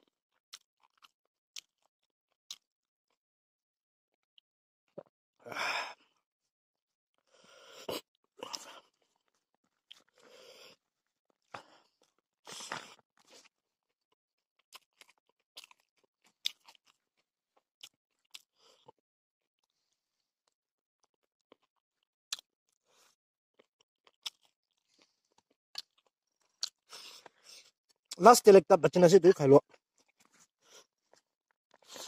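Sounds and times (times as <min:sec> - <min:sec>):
man chewing and crunching food: 0:00.0 - 0:03.2, 0:07.1 - 0:28.3, 0:29.6 - 0:32.0.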